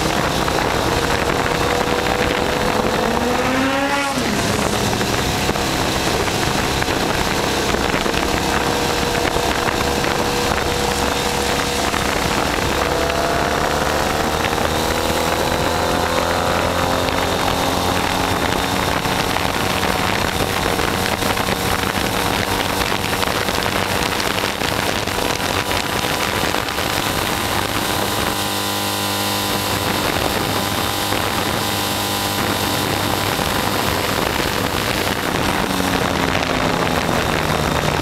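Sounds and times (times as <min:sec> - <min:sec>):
motorcycle engine running: 0:00.0 - 0:38.0
wind rush on microphone: 0:00.0 - 0:38.0.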